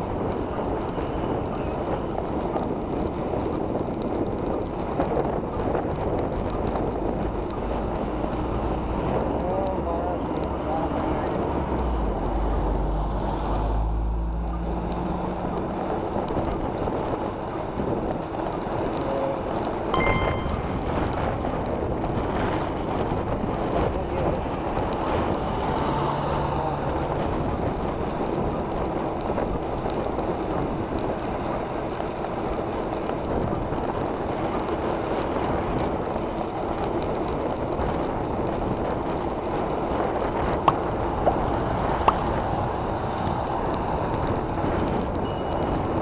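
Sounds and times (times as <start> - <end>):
road noise: 0.0 - 46.0
wind rush on microphone: 0.0 - 46.0.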